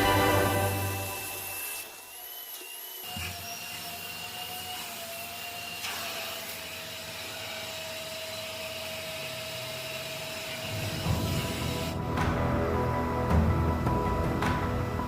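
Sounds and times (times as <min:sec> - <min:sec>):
machine whining: 0:00.0 - 0:05.5, 0:06.6 - 0:15.0.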